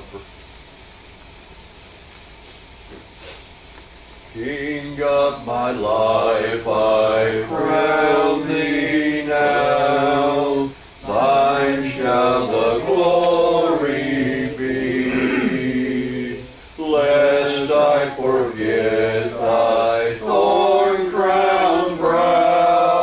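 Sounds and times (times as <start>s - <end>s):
congregation singing a hymn: 4.3s - 23.0s.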